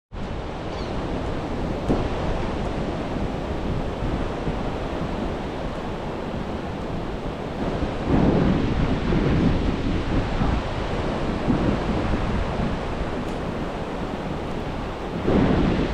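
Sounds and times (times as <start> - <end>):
wind buffeting microphone: 0.1 - 15.9
ocean surf washing onto beach: 0.2 - 15.9.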